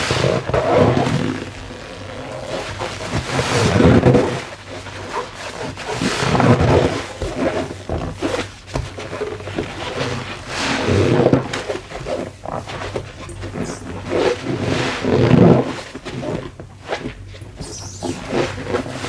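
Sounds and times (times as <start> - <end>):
foam sponge squeaking and creaking: 0.0 - 19.0.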